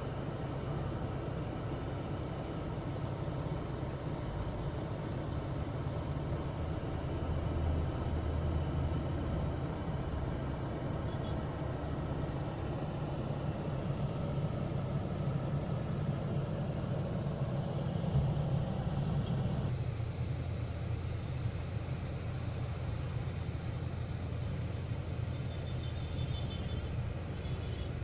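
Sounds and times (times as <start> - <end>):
diesel truck engine rumbling: 0.0 - 28.0.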